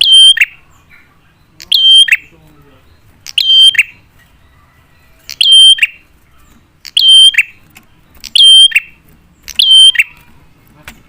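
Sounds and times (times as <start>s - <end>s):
bird calling loudly: 0.0s - 10.4s.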